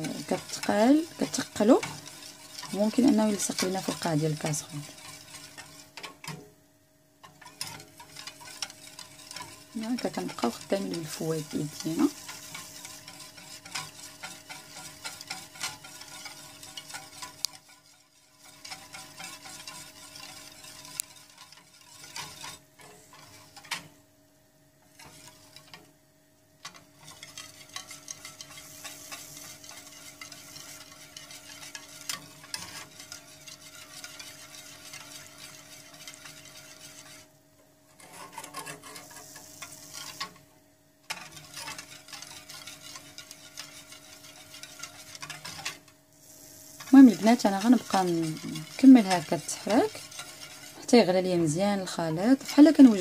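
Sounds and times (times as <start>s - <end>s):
utensil scraping a saucepan: 0.0s - 6.5s, 7.2s - 24.0s, 24.8s - 25.9s, 26.6s - 37.3s, 37.9s - 53.0s.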